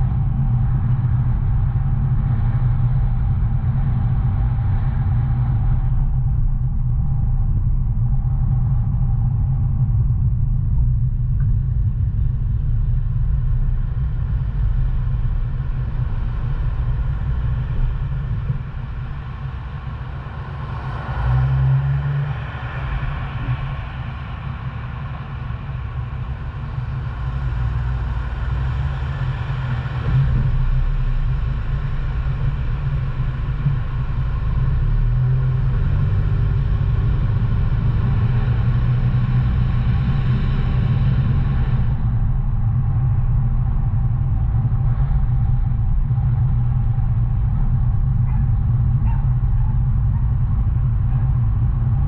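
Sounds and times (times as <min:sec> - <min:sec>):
car engine rumble: 0:00.0 - 0:52.0.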